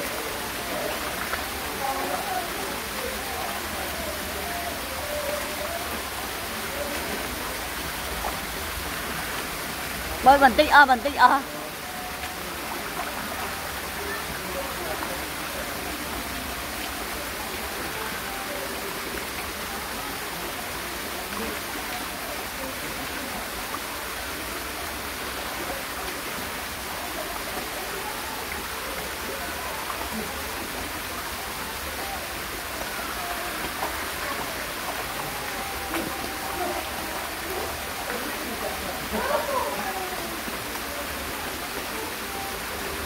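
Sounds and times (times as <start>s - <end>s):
faint voices: 0.0s - 43.0s
rushing water: 0.0s - 43.0s.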